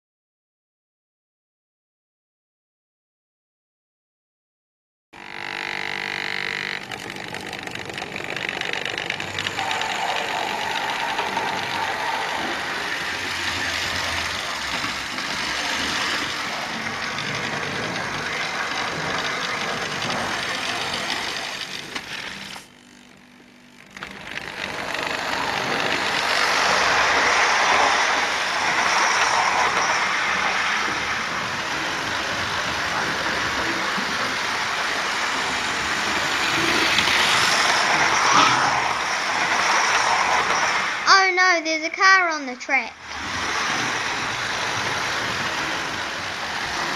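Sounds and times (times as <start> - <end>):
model trains whirring on track: 5.2 - 46.9.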